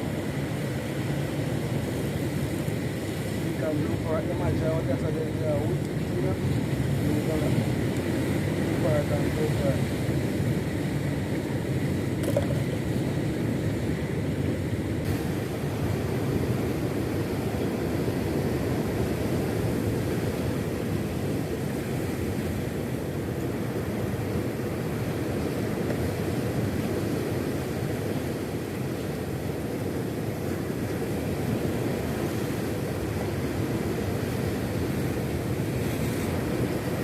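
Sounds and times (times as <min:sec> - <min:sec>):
boat motor droning: 0:00.0 - 0:37.0
water rushing: 0:00.0 - 0:37.0
wind: 0:00.0 - 0:37.0.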